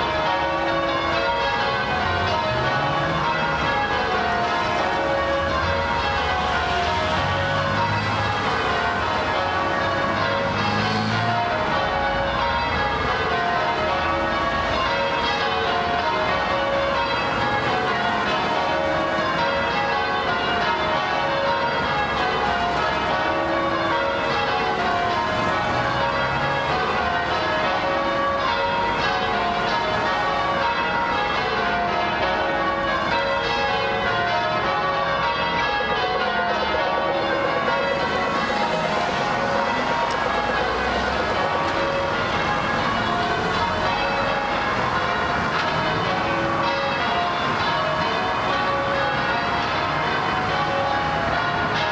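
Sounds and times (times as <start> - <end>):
church bells ringing: 0.0 - 51.9.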